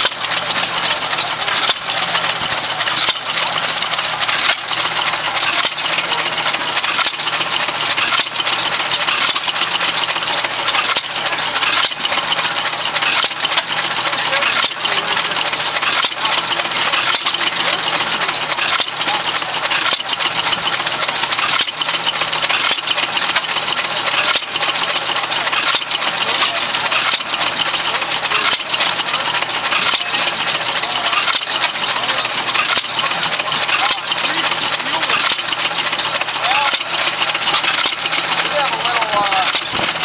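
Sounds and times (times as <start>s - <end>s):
engine noise: 0.0s - 40.0s
stationary engine firing: 0.0s - 40.0s.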